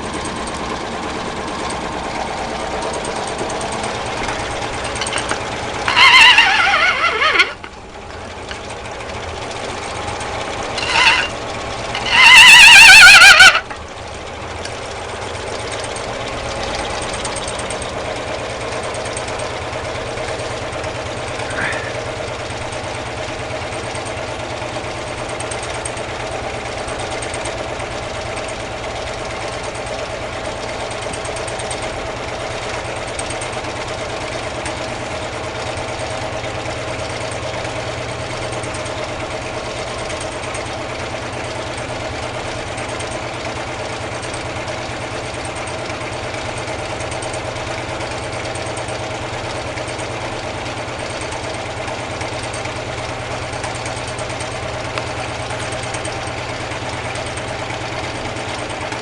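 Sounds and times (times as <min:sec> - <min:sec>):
stirling engine running: 0:00.0 - 0:59.0.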